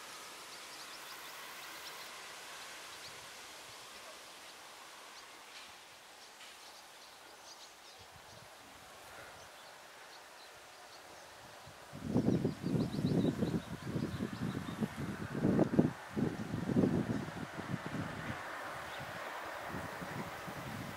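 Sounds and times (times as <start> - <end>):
faint steady hiss: 0.0 - 20.9.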